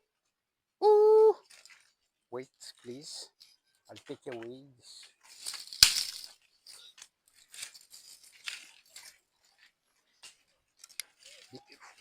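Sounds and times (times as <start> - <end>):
dry leaves and twigs rustling: 1.4 - 2.2, 2.8 - 12.0.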